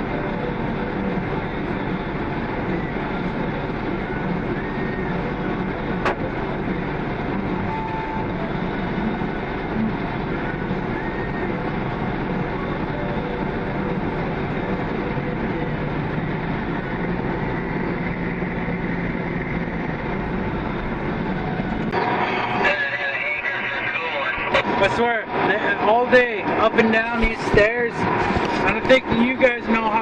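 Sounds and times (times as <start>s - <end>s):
heavy farm machinery running: 0.0s - 30.0s.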